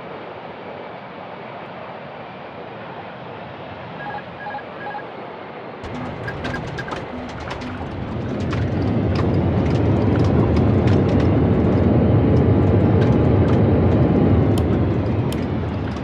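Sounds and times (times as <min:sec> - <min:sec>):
jet engines rumbling: 0:02.4 - 0:16.0.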